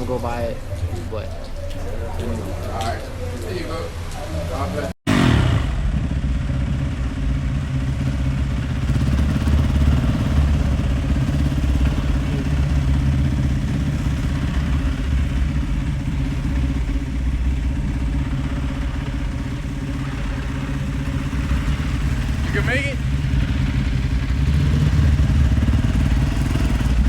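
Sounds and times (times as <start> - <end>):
motorcycle engine running: 5.1 - 27.0.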